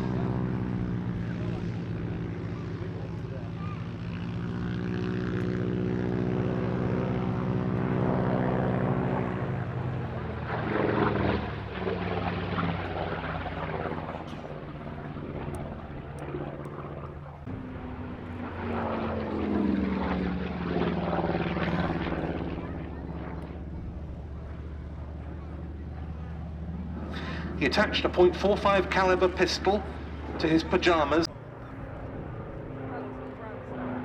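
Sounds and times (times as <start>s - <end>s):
propeller plane engine passing: 0.0s - 34.0s.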